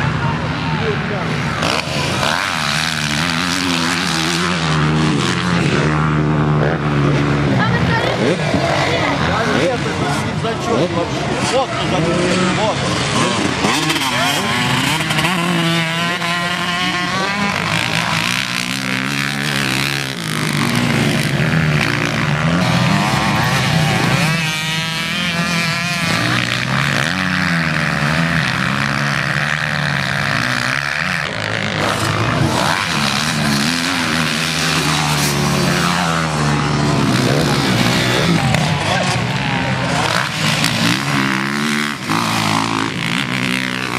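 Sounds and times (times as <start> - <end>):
motocross motorcycles revving: 0.0 - 43.9
motorcycle passing loudly: 0.0 - 43.9.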